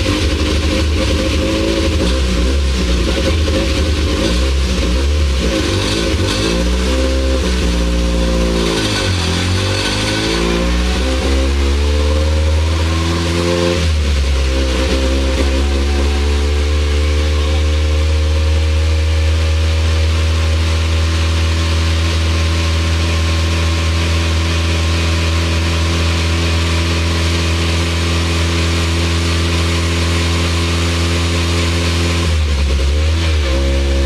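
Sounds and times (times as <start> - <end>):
car engine with loud exhaust: 0.0 - 34.0.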